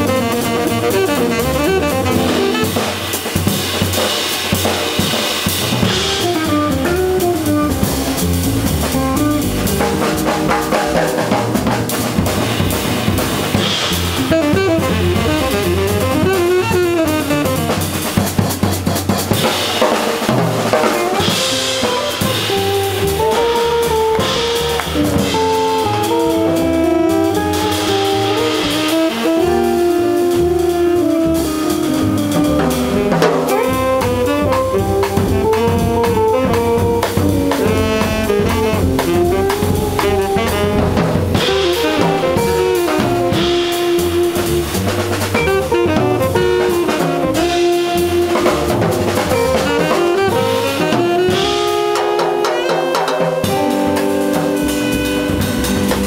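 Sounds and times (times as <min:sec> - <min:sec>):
drum kit with cymbals: 0:00.0 - 0:56.0
jazz band playing: 0:00.0 - 0:56.0.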